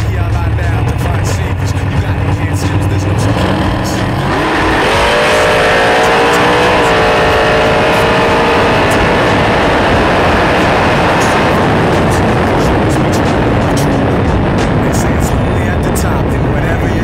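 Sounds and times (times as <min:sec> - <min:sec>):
dragster engine at full throttle: 0:00.0 - 0:15.4.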